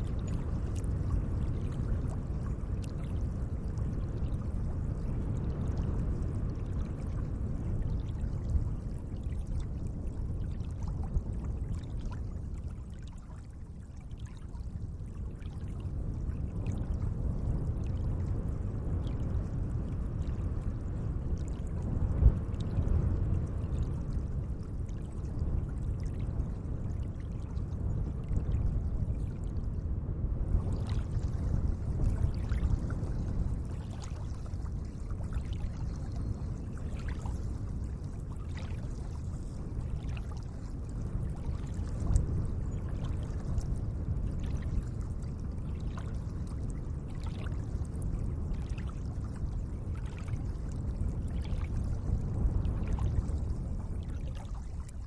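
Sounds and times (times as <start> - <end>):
water drips and splashes: 0.0 - 29.6, 30.6 - 55.0.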